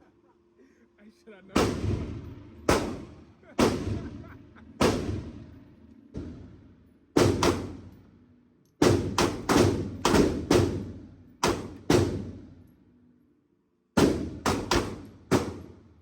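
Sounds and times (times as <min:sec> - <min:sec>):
gunshots echoing indoors: 0:01.6 - 0:12.8, 0:14.0 - 0:16.0.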